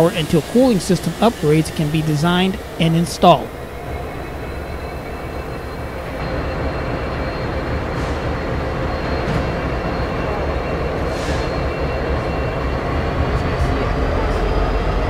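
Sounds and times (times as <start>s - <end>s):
locomotive engines rumbling: 0.0s - 15.0s.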